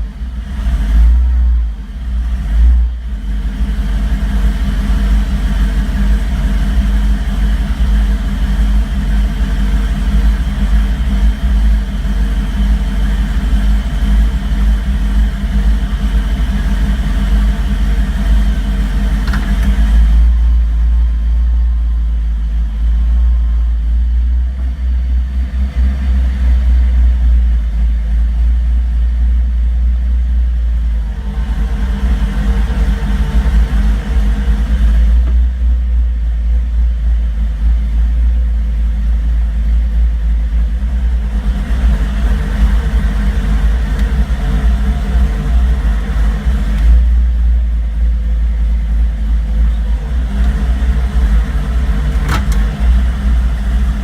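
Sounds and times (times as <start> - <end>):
car engine idling roughly: 0.0 - 54.0
higher mechanical engine sound: 0.0 - 54.0.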